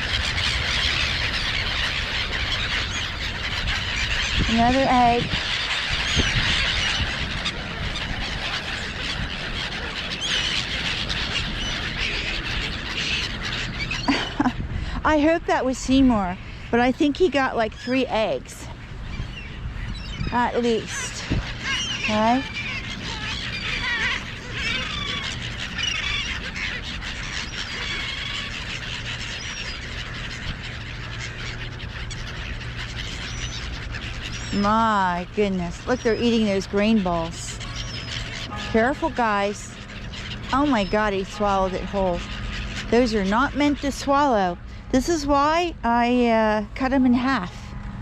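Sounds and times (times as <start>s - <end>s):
gulls calling: 0.0s - 48.0s
steady low rumble: 0.0s - 48.0s.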